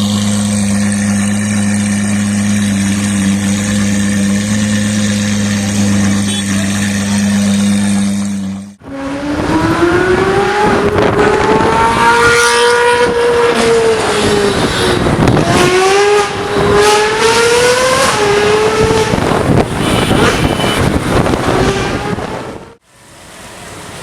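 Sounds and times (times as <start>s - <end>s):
car engine revving hard: 0.0s - 22.7s.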